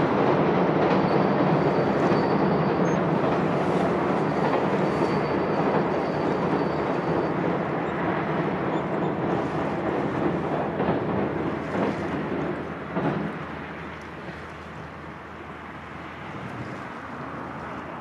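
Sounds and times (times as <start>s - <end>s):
train rumbling over steel bridge: 0.0s - 18.0s.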